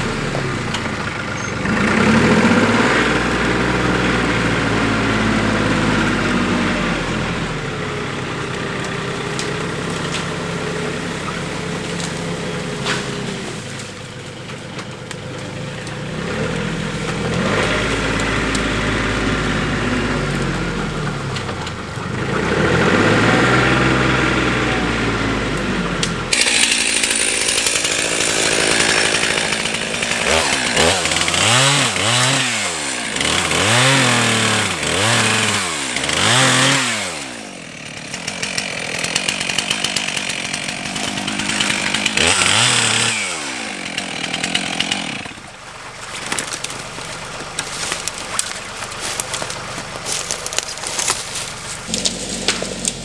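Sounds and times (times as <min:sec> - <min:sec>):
chainsaw revving and cutting: 0:00.0 - 0:53.0
tractor engine running: 0:00.0 - 0:53.0.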